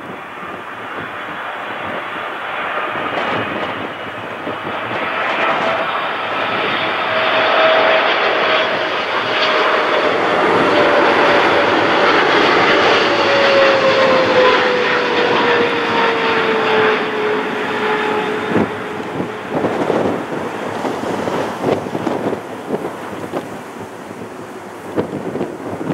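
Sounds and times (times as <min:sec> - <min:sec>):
jet roar with falling whine: 0:00.0 - 0:25.9.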